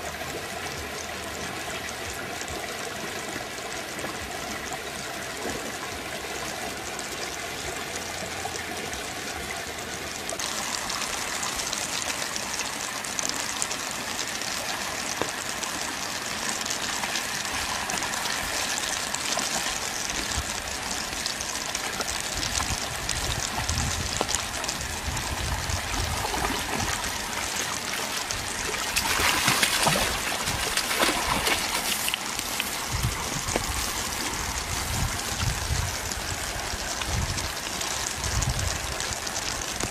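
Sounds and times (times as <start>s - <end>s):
fast-flowing stream rushing: 2.8s - 38.4s.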